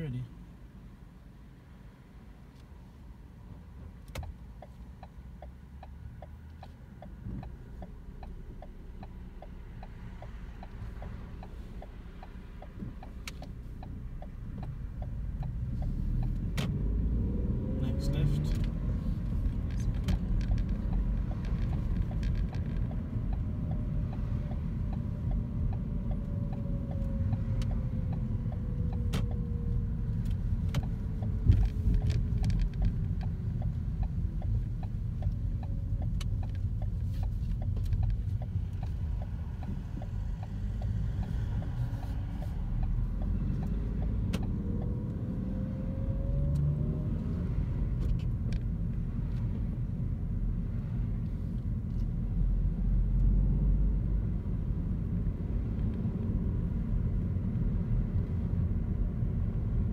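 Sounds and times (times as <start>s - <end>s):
car engine from inside cabin: 0.0s - 59.9s
road rumble: 0.0s - 59.9s
regular ticking: 4.0s - 53.6s.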